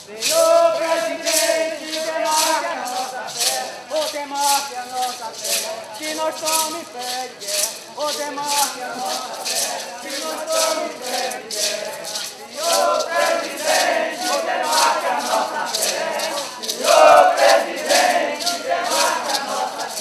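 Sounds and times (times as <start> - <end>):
group of voices chanting: 0.0 - 4.7, 7.6 - 20.0
maracas shaken in a steady beat: 0.0 - 20.0.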